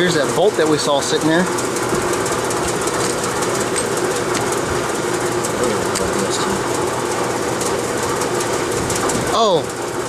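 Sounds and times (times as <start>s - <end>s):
machinery whirring: 0.0s - 10.0s.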